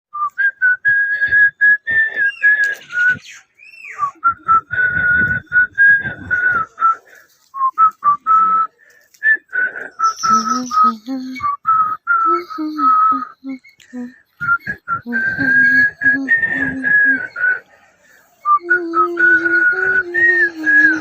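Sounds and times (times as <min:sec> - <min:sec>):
person whistling a melody: 0:00.1 - 0:03.2, 0:03.9 - 0:17.6, 0:18.4 - 0:21.0.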